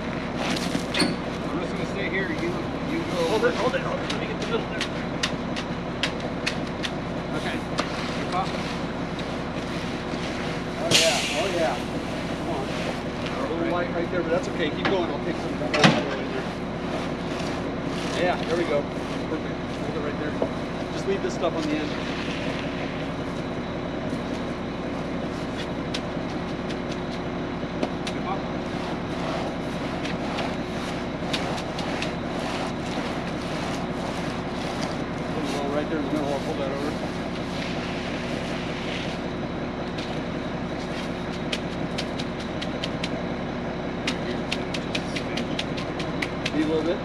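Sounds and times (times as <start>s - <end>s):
concrete mixer truck humming: 0.0s - 47.0s.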